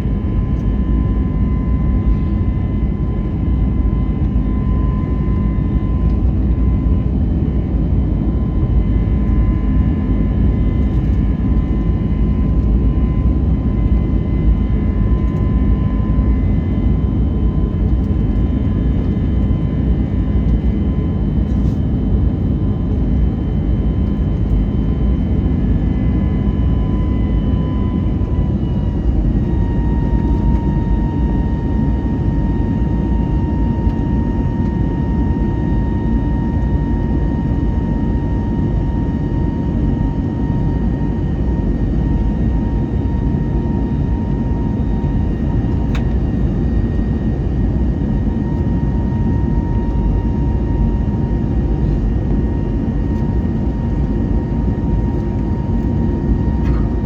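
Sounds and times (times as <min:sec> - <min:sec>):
jet engines rushing in cabin: 0:00.0 - 0:57.0.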